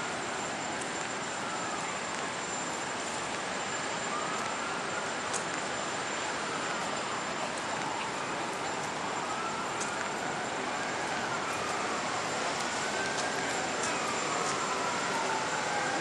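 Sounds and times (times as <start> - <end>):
tyres hissing on wet streets: 0.1 - 16.0.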